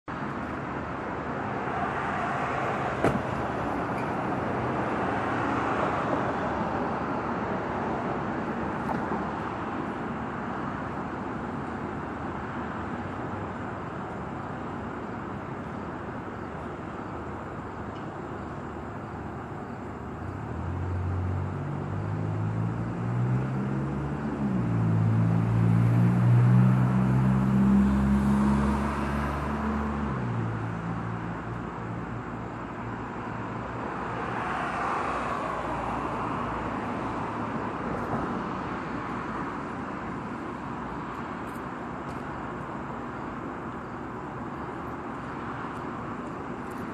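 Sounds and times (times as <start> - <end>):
passing traffic: 0.0 - 46.9
vehicle engine: 0.1 - 46.9.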